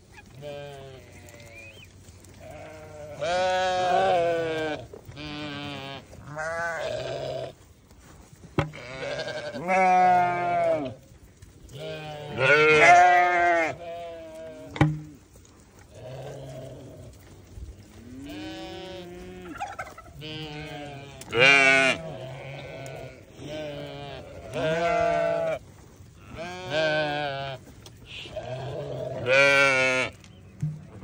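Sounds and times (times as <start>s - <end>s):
sheep and goats bleating: 0.0s - 31.0s.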